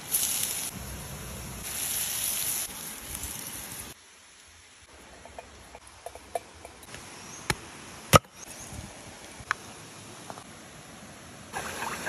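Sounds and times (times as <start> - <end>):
rush of flowing water: 1.6 - 12.0.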